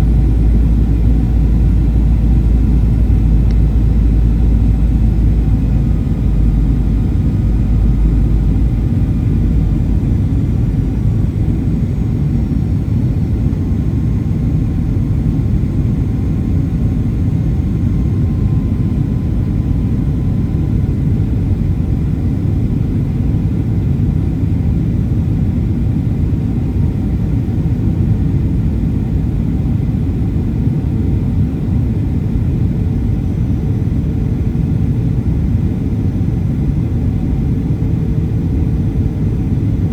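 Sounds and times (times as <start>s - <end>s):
faint steady whine: 0.0s - 39.9s
low engine rumble in cabin: 0.0s - 39.9s.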